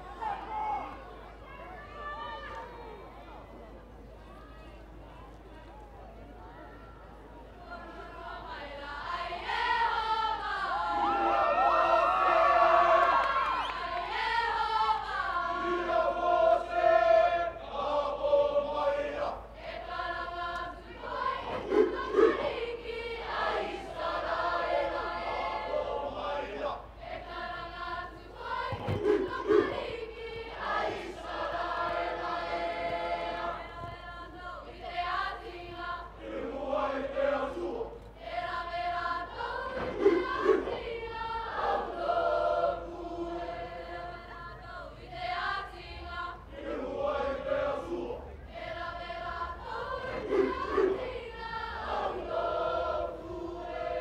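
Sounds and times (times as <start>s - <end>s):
mixed choir singing in parts: 7.6s - 54.0s.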